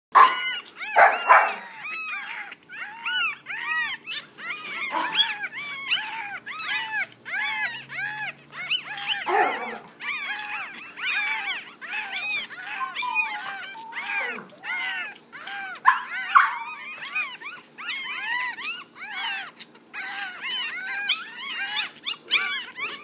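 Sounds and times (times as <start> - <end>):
puppies crying and whimpering: 0.1 - 23.0.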